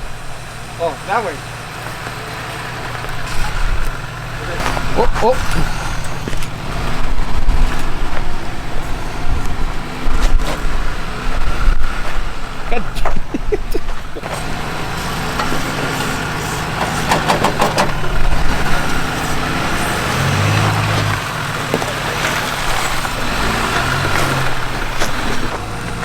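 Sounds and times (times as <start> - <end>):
truck engine at low revs: 0.0 - 26.0.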